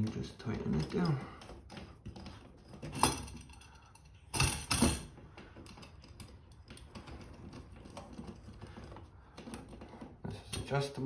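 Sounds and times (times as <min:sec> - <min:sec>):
hard parts clattering: 0:00.6 - 0:10.0.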